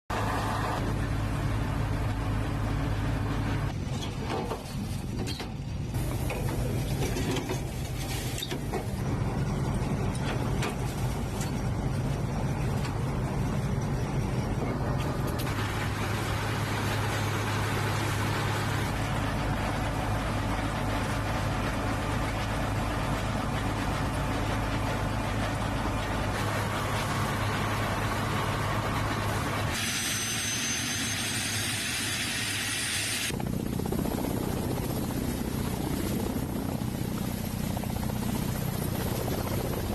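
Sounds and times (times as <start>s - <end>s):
helicopter engines and rotors drone: 0.1s - 4.1s, 5.3s - 39.9s.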